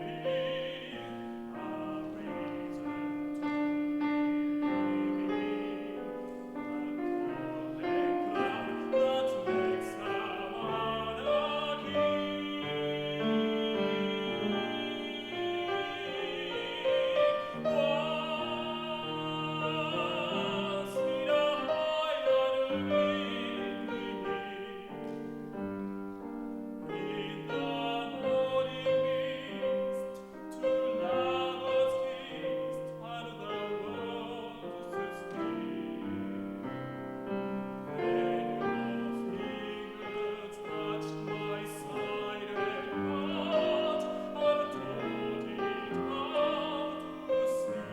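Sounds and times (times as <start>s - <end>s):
man singing operatically: 0.0s - 6.0s, 6.6s - 25.0s, 26.9s - 36.4s, 37.9s - 47.9s
piano accompaniment: 0.0s - 47.9s.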